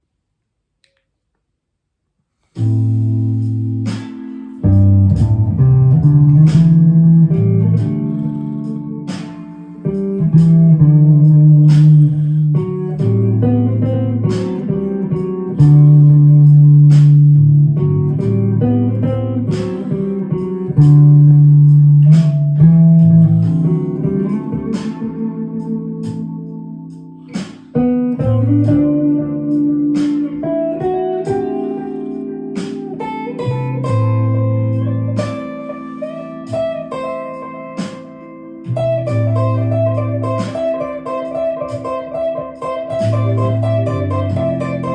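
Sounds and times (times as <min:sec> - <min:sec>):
clean electric guitar improvising: 0:02.6 - 0:44.9.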